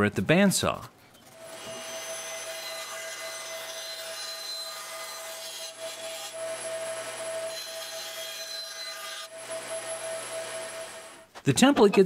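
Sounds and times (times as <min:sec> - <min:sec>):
bandsaw cutting wood: 0:01.3 - 0:11.3.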